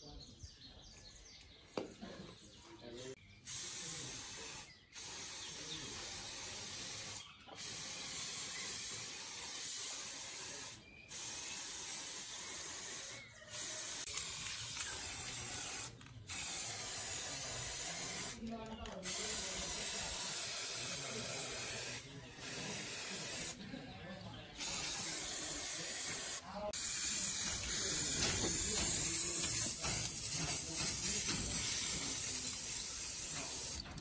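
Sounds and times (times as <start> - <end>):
pressurised spray hissing: 3.4 - 18.4, 19.0 - 23.6, 24.6 - 33.9.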